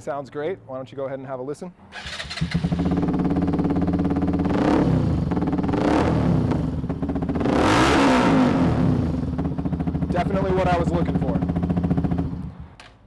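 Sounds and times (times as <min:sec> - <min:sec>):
motorcycle engine revving: 0:01.9 - 0:12.7.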